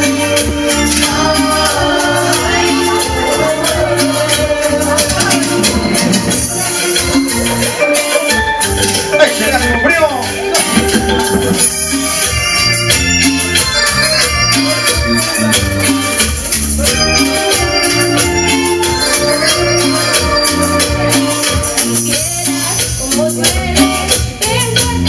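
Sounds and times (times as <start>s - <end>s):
electronic keyboard melody: 0.0s - 25.0s
repeating bass line: 0.0s - 25.0s
shaker rhythm: 0.0s - 25.0s.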